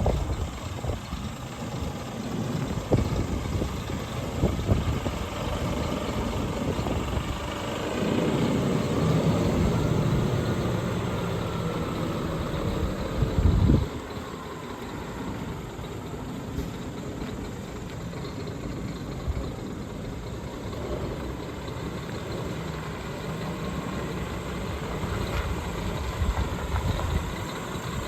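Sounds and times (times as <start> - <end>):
diesel truck engine idling: 0.0 - 28.0.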